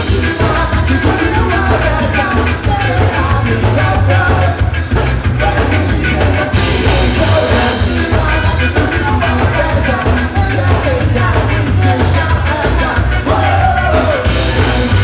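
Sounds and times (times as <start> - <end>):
bass guitar: 0.0 - 15.0
drums driving beat: 0.0 - 15.0
electric guitars: 0.0 - 15.0
person singing: 0.0 - 15.0.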